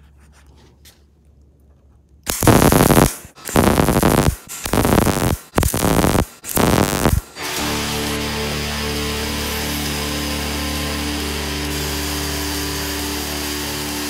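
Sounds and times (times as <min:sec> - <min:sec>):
welder arc crackling: 0:02.3 - 0:14.0.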